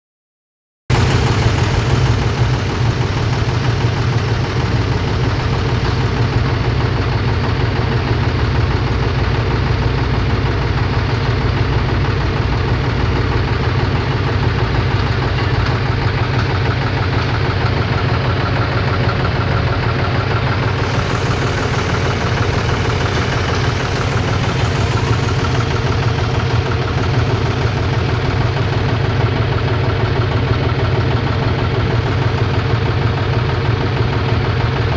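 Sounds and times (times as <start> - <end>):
diesel engine idling: 0.9 - 34.9.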